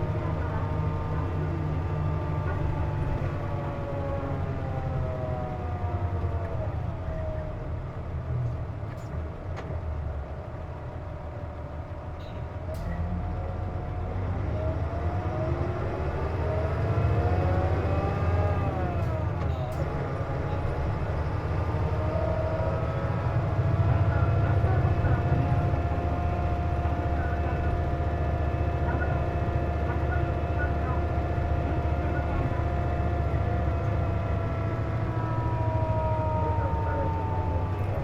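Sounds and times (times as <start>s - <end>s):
bus engine rumble with whine: 0.0s - 38.0s.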